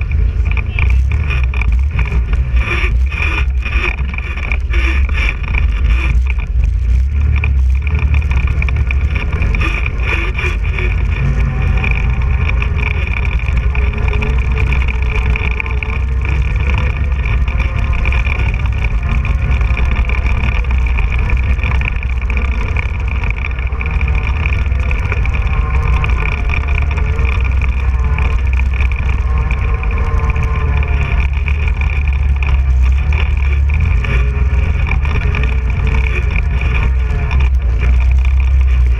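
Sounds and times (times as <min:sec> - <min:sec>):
heavy low rumble: 0:00.0 - 0:38.9
quad engine running: 0:00.0 - 0:38.9.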